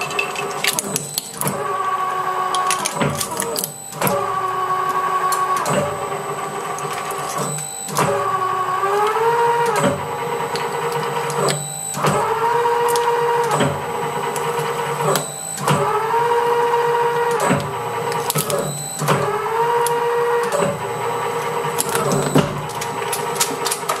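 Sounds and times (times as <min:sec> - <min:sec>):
cutters crunching plastic with cracks: 0:00.4 - 0:01.8, 0:02.4 - 0:06.0, 0:06.7 - 0:08.2, 0:08.8 - 0:20.8, 0:21.4 - 0:24.0
shredder motor whining: 0:00.4 - 0:24.0.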